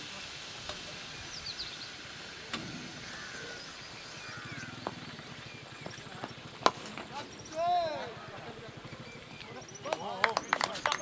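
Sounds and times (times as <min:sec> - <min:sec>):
faint low engine drone: 0:00.0 - 0:11.0
open-air hiss: 0:00.0 - 0:11.0
bird chirps: 0:01.1 - 0:02.1, 0:03.0 - 0:11.0.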